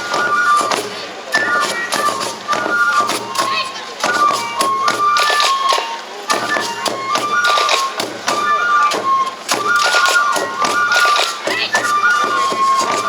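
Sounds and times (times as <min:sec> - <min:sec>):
bamboo flute playing: 0:00.0 - 0:13.0
drum strokes: 0:00.0 - 0:13.0
voices: 0:00.0 - 0:13.0.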